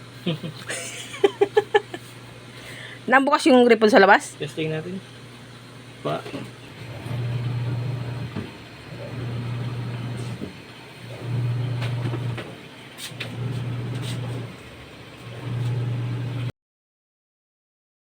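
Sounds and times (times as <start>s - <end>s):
washing machine motor humming: 0.0s - 16.5s.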